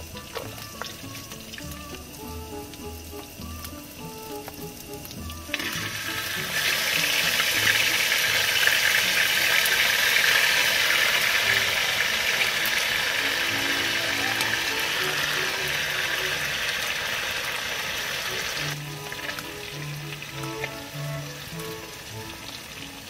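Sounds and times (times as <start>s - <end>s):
loud sizzle of food on griddle: 0.0s - 23.0s
meat frying on a griddle: 0.0s - 23.0s.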